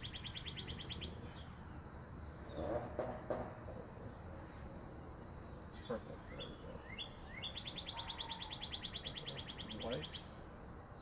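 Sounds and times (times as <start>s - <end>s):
songbird singing a trill: 0.0s - 3.0s, 4.0s - 11.0s.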